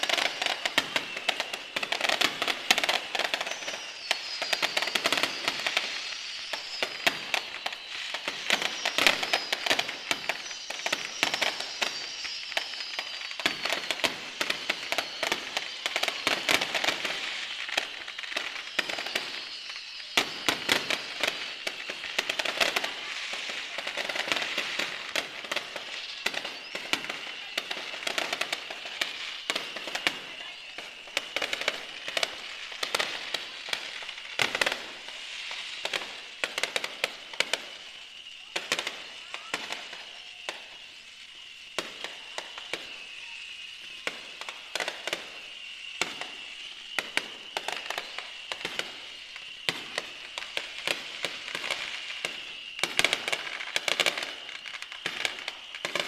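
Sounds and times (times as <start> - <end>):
fireworks popping and crackling: 0.0 - 56.0.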